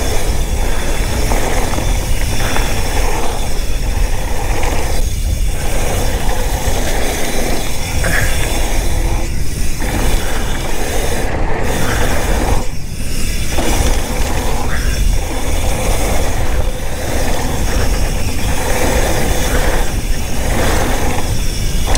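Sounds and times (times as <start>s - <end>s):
bike rattling: 0.0s - 21.9s
tyres running over dirt: 0.0s - 21.9s
wind buffeting microphone: 0.0s - 21.9s.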